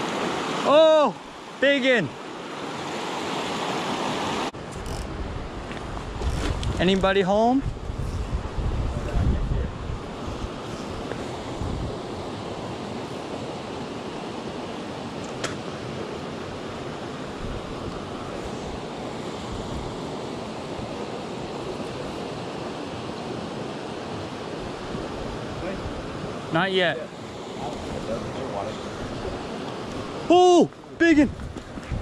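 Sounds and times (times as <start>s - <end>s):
mountain stream rushing: 0.0s - 9.0s, 9.7s - 32.0s.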